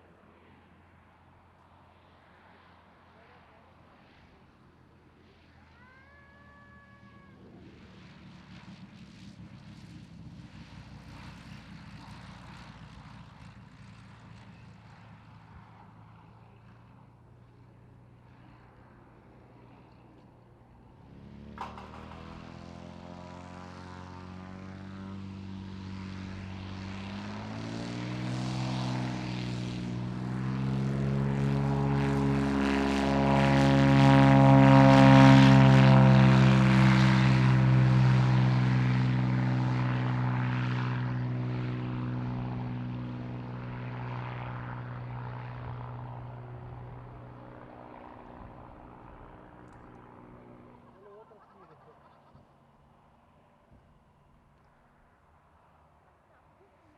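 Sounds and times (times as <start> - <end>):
propeller aircraft engine: 0.0 - 56.9.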